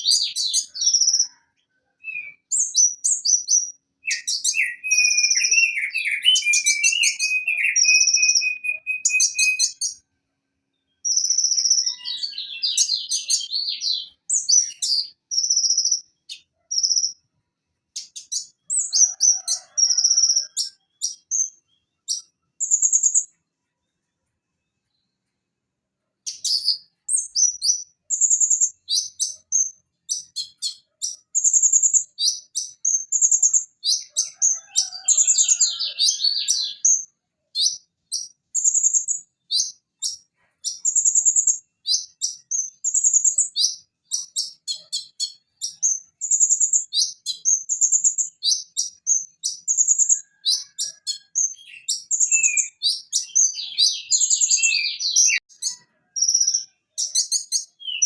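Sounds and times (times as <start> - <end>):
sunbird singing chirps and trills: 0.0 - 1.4, 2.0 - 10.0, 10.7 - 17.3, 17.9 - 23.4, 26.2 - 58.0.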